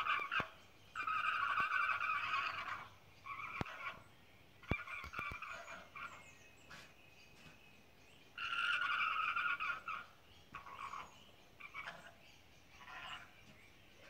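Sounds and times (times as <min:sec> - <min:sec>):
alpacas calling: 0:00.0 - 0:06.8, 0:08.3 - 0:13.6.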